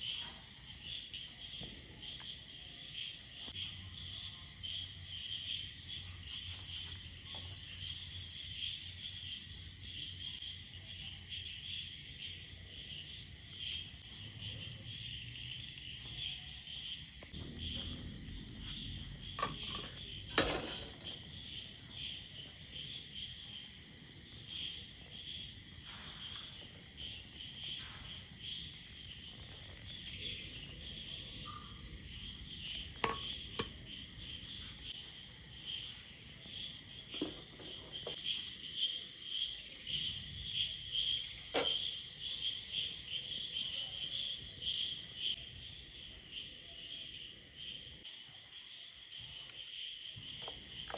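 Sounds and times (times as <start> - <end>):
crickets chirping: 0.0 - 50.9.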